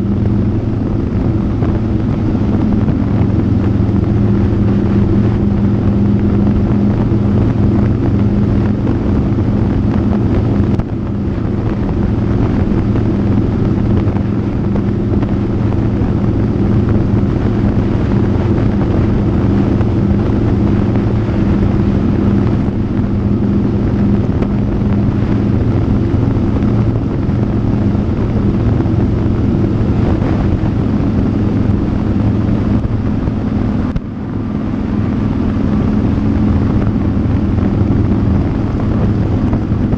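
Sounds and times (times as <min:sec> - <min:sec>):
motorcycle engine cruising: 0:00.0 - 0:39.9
wind on microphone: 0:00.0 - 0:39.9.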